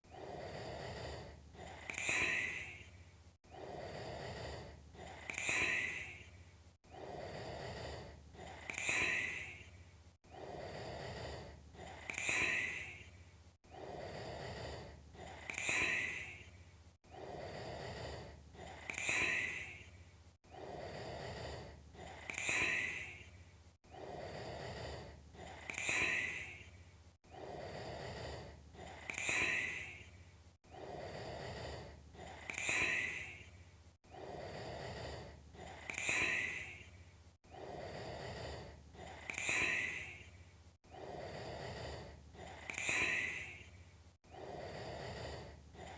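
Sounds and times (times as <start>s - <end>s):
person breathing heavily: 0.0s - 45.9s.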